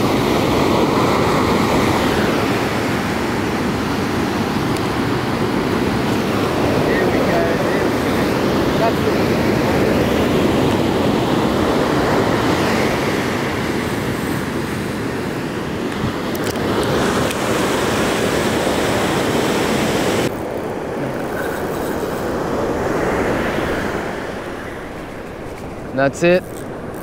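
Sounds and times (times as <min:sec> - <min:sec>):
surf breaking on beach: 0:00.0 - 0:27.0.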